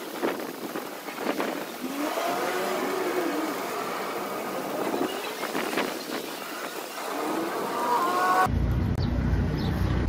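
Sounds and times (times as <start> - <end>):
welding arc crackling hiss: 0.0 - 8.5.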